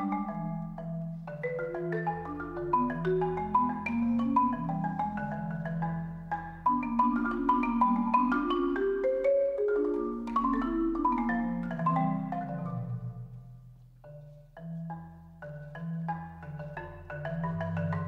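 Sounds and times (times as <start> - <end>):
solo marimba playing: 0.0 - 18.0.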